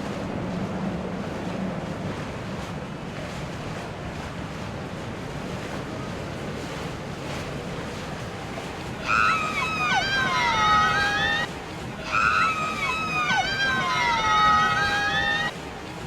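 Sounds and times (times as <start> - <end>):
boat engine hum: 0.0 - 16.0
water rushing: 0.0 - 16.0.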